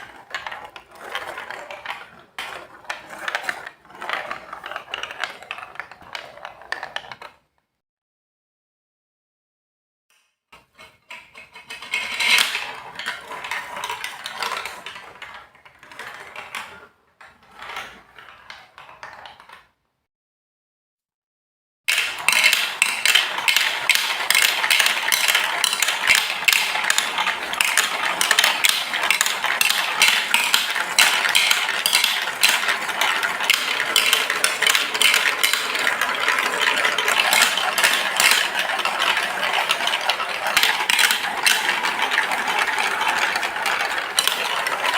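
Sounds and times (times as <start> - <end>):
marbles clattering on plastic run: 0.0 - 7.4, 11.1 - 19.7, 21.9 - 44.9.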